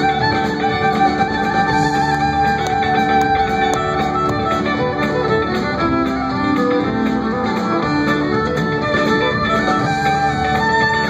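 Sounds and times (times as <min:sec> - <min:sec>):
electric guitars: 0:00.0 - 0:11.0
fiddle melody: 0:00.0 - 0:11.0
upright bass: 0:00.0 - 0:11.0.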